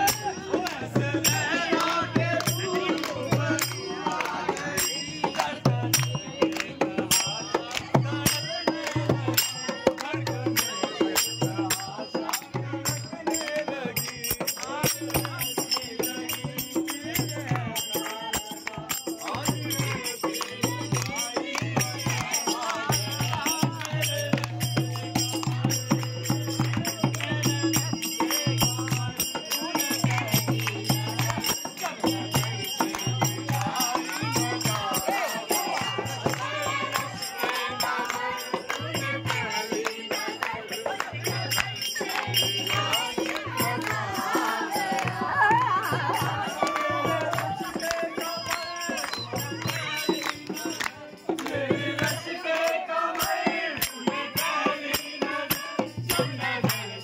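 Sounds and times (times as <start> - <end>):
dholak drum: 0.0 - 57.0
voices singing: 0.0 - 57.0
hand clapping: 0.1 - 55.6.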